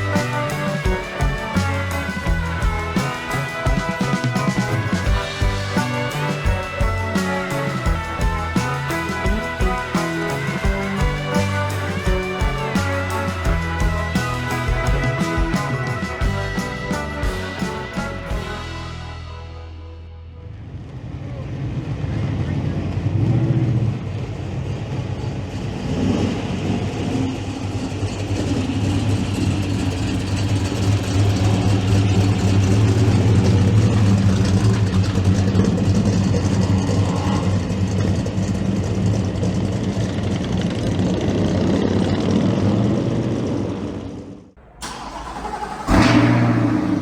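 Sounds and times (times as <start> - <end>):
car engine running: 0.0 - 19.6, 22.4 - 47.0.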